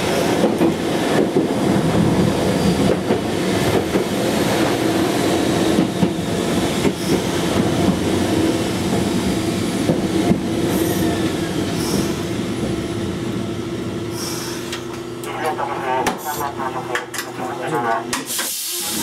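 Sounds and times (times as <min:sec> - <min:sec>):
electric train rolling drone: 0:00.0 - 0:17.1.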